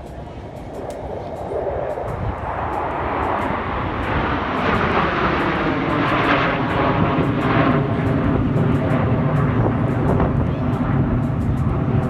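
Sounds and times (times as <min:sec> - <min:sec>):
airplane flying over: 0:00.0 - 0:12.0.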